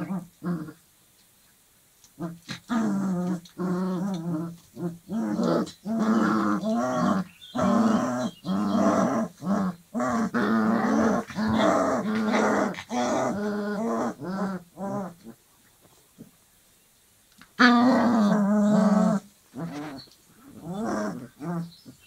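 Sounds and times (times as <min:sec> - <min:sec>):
puppies growling: 0:02.2 - 0:15.4, 0:17.5 - 0:22.0.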